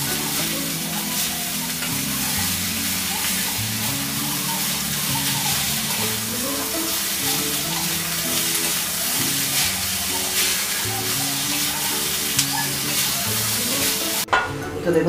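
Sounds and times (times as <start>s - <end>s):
noodles sizzling in a pan: 0.0s - 14.3s.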